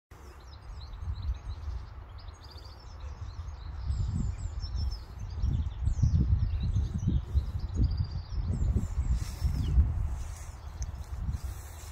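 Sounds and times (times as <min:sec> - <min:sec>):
birds singing and chirping: 0:00.2 - 0:11.9
wind rumble on microphone: 0:00.2 - 0:11.9.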